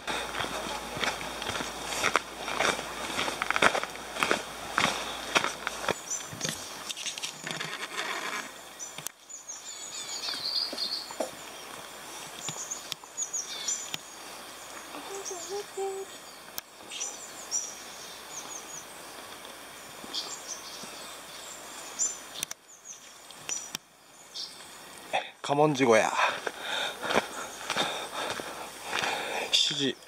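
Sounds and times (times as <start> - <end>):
forest background hiss: 0.0 - 30.0
small birds chirping: 0.0 - 30.0.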